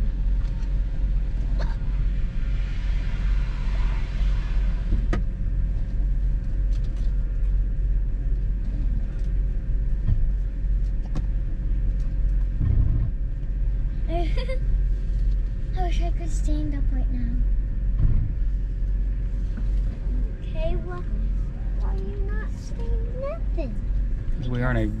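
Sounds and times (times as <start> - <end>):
vehicle engine rumble from cabin: 0.0 - 25.0.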